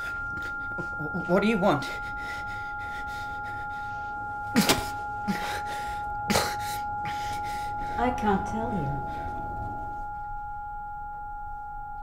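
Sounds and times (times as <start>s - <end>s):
high two-note tone drone: 0.0s - 12.0s.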